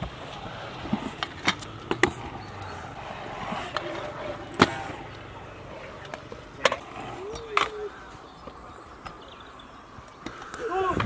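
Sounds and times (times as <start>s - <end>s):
scooters knocking and clacking: 0.0s - 11.0s.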